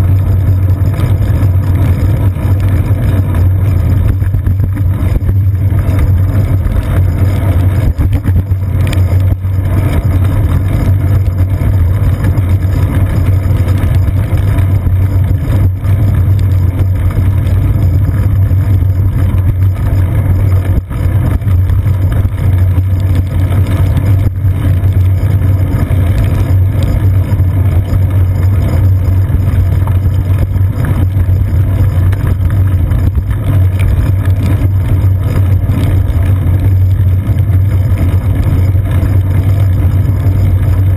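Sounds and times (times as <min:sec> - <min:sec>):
bicycle road rumble: 0:00.0 - 0:40.9
wind on camera case: 0:00.0 - 0:40.9.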